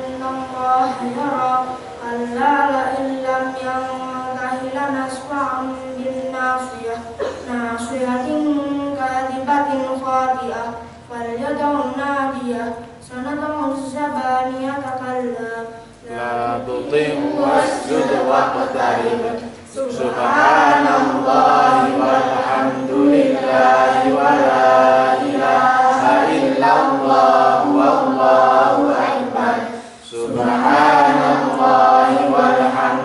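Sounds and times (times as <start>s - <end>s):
boy chanting into microphone: 0.0s - 33.0s.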